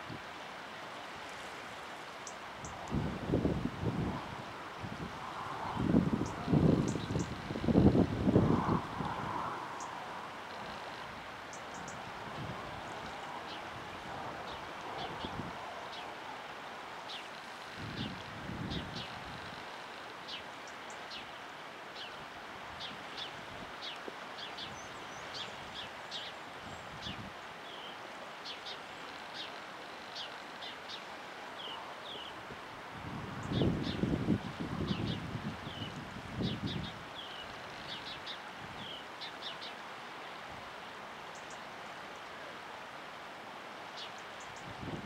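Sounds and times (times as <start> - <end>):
hiss of wind and water: 0.0 - 45.0.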